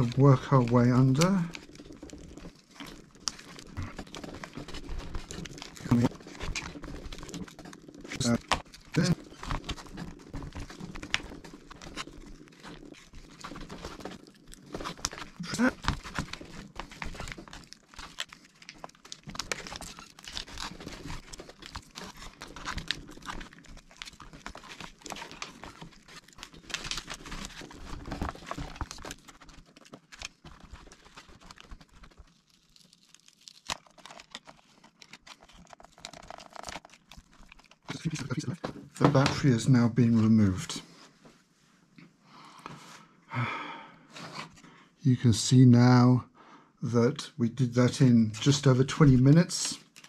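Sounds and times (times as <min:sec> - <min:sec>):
crinkling and scraping of adhesive: 0:00.0 - 0:43.1, 0:44.1 - 0:44.8, 0:47.6 - 0:50.0.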